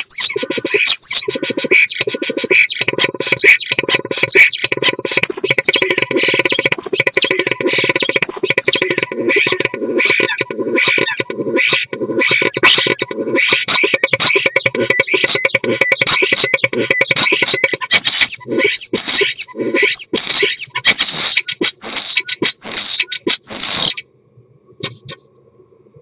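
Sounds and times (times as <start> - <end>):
starling singing: 0.0 - 24.0.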